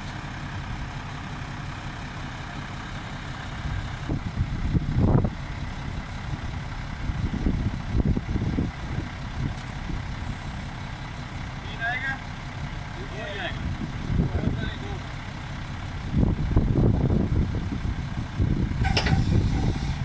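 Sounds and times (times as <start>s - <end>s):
heavy engine rumbling: 0.0s - 20.0s.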